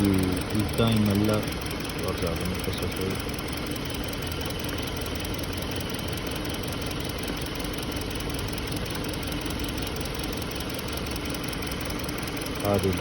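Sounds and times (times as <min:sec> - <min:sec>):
misfiring engine idling: 0:00.0 - 0:13.0.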